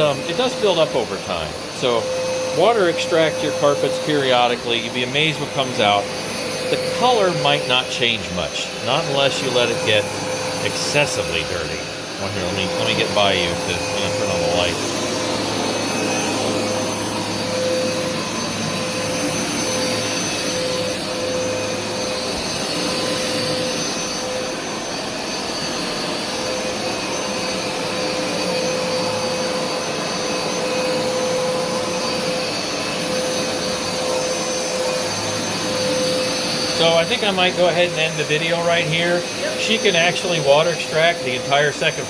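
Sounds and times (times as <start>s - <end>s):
carpet cleaner running: 0.0s - 42.0s.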